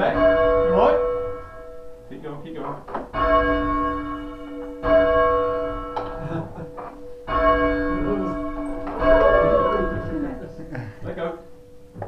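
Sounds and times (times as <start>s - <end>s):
church bell striking: 0.0s - 12.0s.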